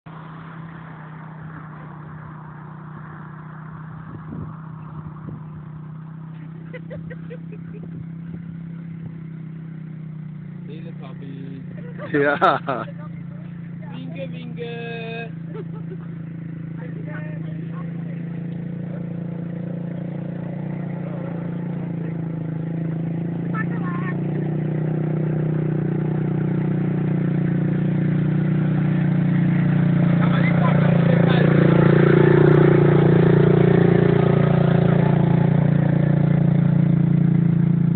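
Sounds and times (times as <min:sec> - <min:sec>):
quad bike engines humming: 0:00.1 - 0:37.9.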